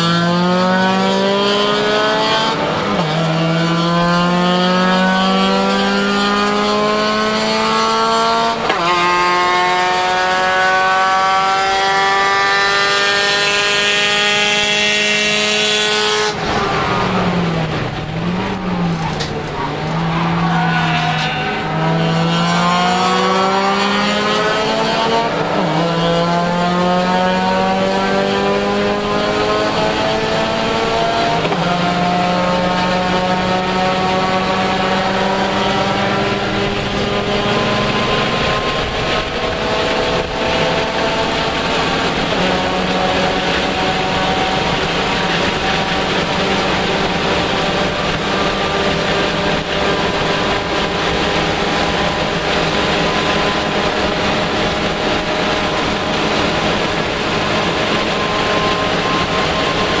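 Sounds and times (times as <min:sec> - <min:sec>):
car engine accelerating: 0:00.0 - 1:00.0
wind and road noise: 0:00.0 - 1:00.0.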